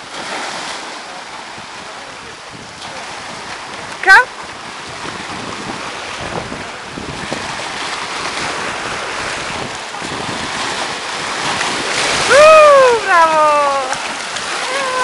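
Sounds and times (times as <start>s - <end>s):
surf breaking on rocks: 0.0s - 15.0s
wind noise on microphone: 1.4s - 15.0s.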